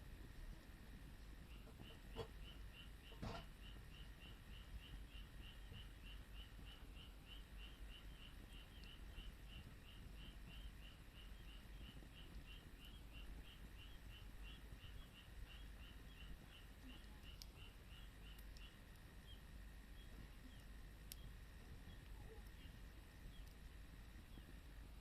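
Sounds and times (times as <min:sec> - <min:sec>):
faint crackles: 0:00.0 - 0:25.0
faint high-pitched chirping: 0:01.4 - 0:24.7.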